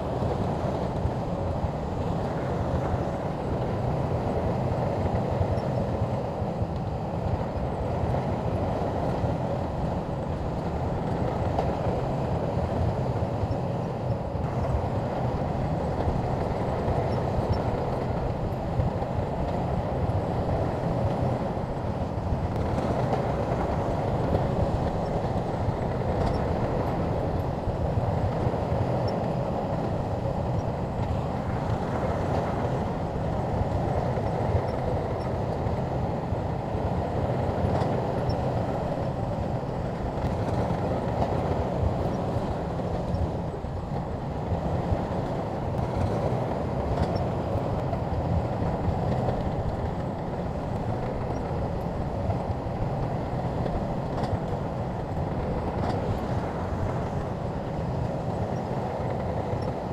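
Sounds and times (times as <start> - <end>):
diesel engine rumble: 0.0 - 59.9
steel tracks clattering: 0.0 - 59.9.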